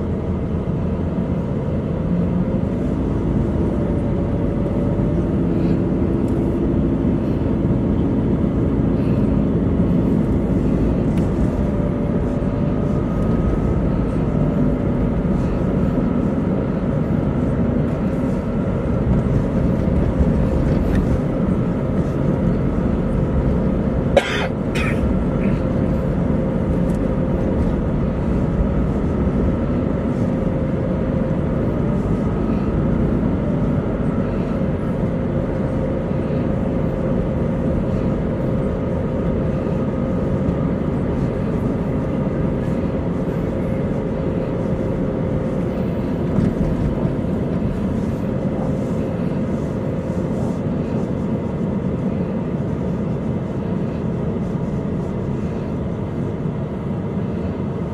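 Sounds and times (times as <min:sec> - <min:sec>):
faint steady hum: 0:00.0 - 0:57.9
road and engine noise in car: 0:00.0 - 0:57.9.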